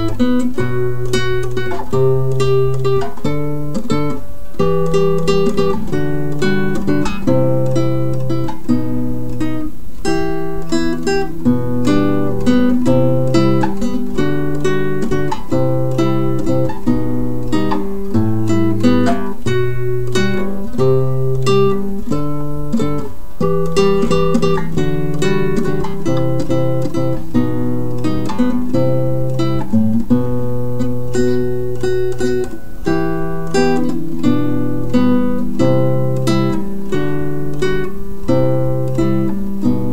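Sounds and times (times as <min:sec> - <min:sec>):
acoustic guitar plucking: 0:00.0 - 0:39.9.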